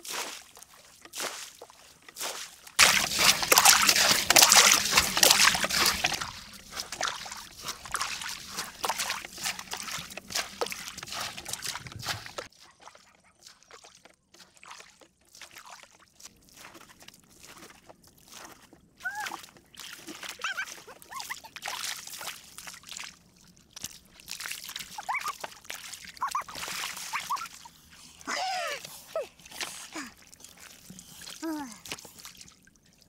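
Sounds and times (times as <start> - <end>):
water sloshing and splashing: 0.0 - 33.0.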